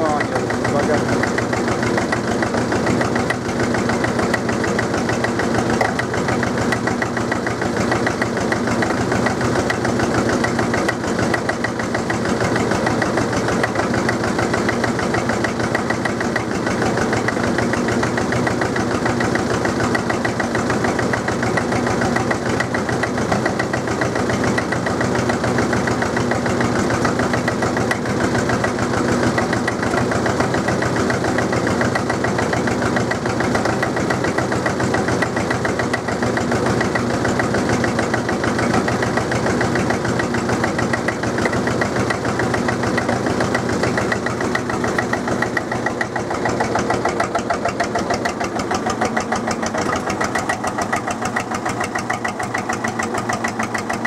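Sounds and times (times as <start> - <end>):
diesel engine knocking: 0.0 - 54.0.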